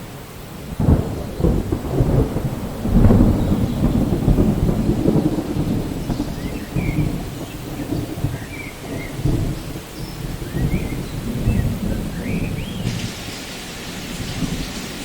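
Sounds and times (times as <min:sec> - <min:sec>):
steady rain: 0:00.0 - 0:15.0
thunder rumbling: 0:00.5 - 0:15.0.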